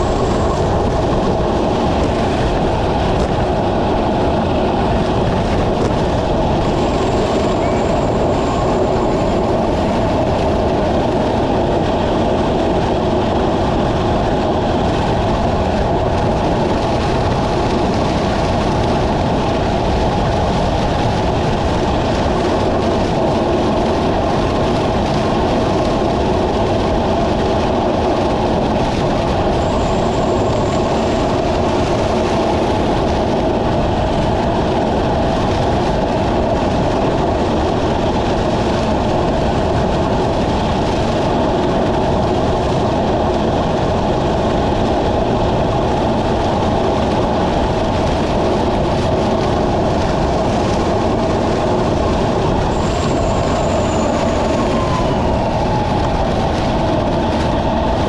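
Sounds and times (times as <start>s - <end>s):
road noise: 0.0s - 58.0s
wind rushing: 0.0s - 58.0s.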